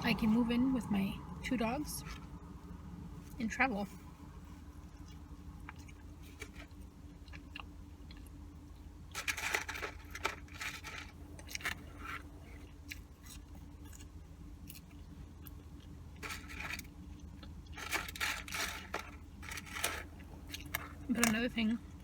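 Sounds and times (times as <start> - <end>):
steady low hum: 0.0 - 22.0
chewing and crunching food: 2.0 - 22.0.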